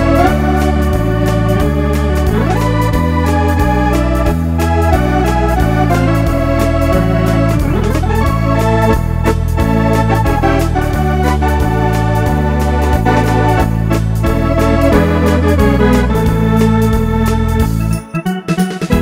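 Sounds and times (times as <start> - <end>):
drum machine beat: 0.0 - 19.0
electronic organ melody: 0.0 - 19.0.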